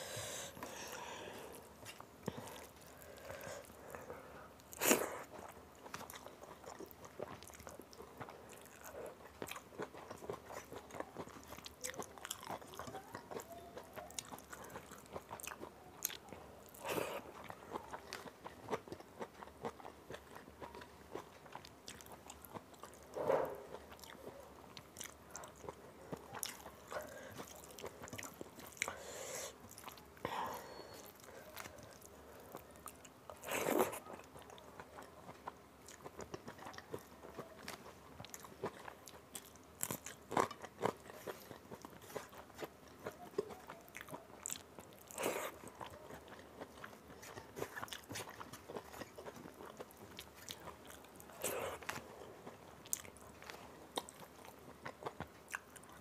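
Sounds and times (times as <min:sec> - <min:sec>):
close-up chewing: 0:00.0 - 0:56.0.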